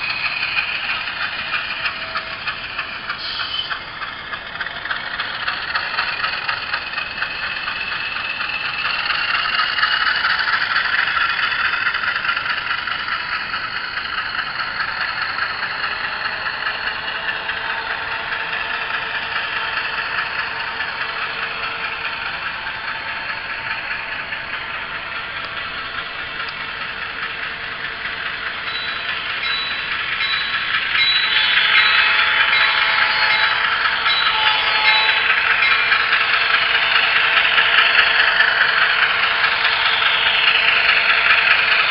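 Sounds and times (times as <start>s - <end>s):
model diesel engine sound from speaker: 0.0s - 41.9s.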